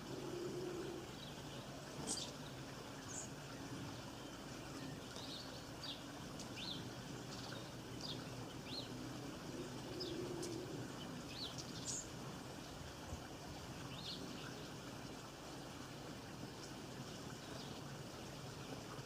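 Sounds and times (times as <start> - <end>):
small birds chirping: 0.0 - 12.8, 13.8 - 15.2, 16.4 - 19.0
light rain hiss: 0.0 - 19.0.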